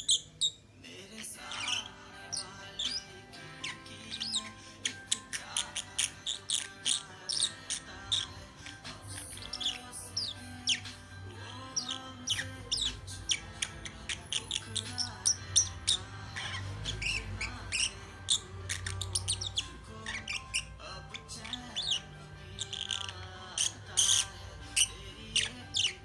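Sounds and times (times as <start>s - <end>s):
bird chirping and twittering: 0.0s - 26.0s.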